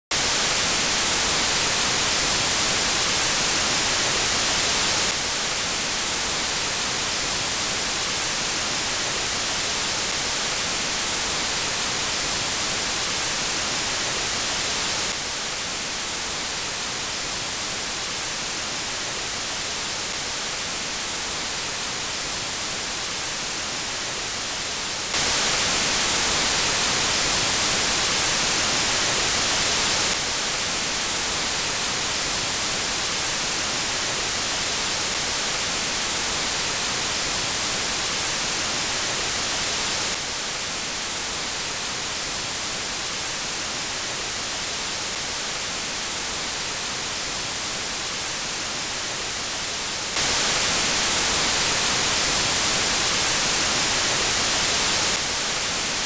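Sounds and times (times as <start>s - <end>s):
steady test hiss: 0.1s - 56.0s.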